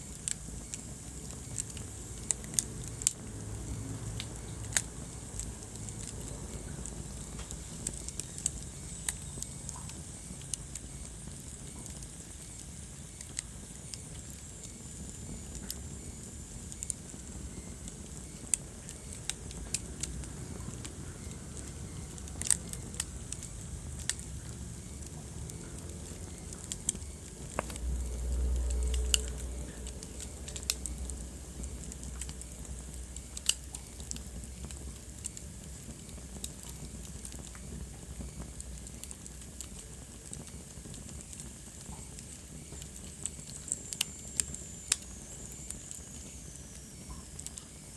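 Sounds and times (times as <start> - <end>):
low rumble of flame: 0.0 - 47.9
wood fire crackling: 0.0 - 47.9.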